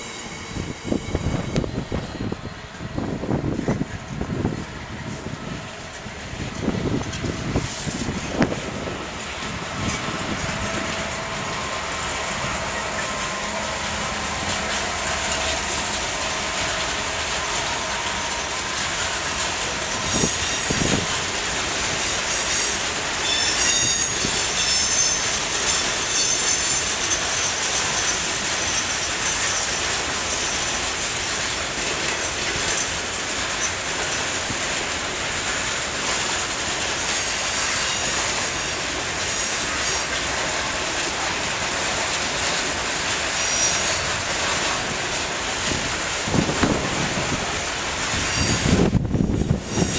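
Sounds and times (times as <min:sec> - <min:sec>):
diesel locomotive running past: 0:00.0 - 0:49.9
wheels rumbling on rail: 0:00.0 - 0:49.9
wheels squealing on rail: 0:00.0 - 0:49.9.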